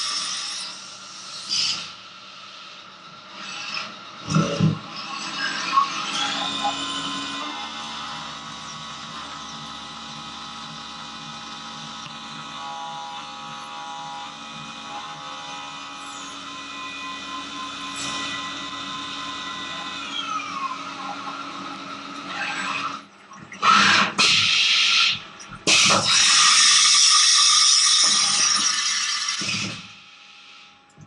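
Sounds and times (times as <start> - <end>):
milling machine spindle whine: 0.0 - 31.0.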